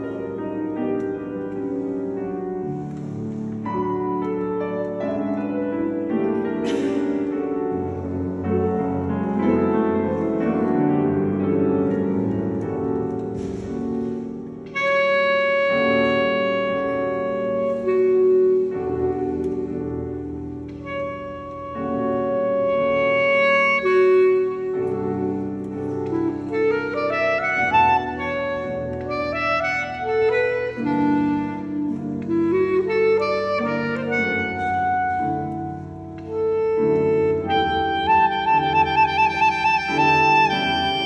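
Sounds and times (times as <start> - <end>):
clarinet: 0.0 - 41.0
piano: 0.0 - 41.0.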